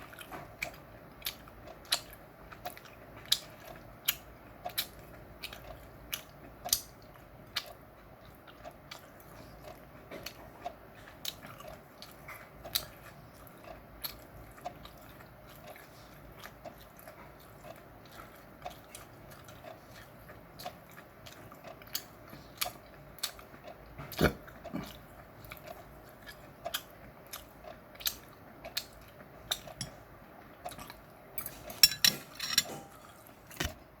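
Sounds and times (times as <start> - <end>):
chewing meat: 0.0 - 34.0.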